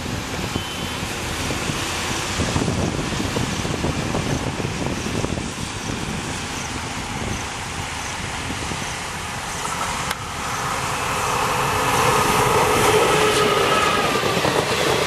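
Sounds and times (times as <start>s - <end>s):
train rumbling past: 0.0s - 15.0s
wind buffeting microphone: 0.0s - 15.0s.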